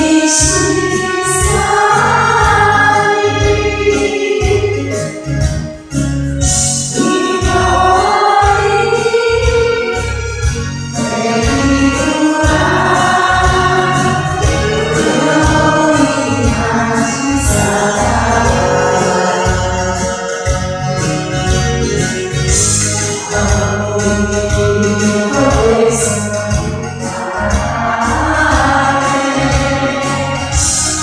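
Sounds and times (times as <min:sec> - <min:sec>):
women singing in unison: 0:00.0 - 0:05.1, 0:06.4 - 0:10.3, 0:11.0 - 0:20.4, 0:22.5 - 0:31.0
backing track with steady beat: 0:00.0 - 0:31.0.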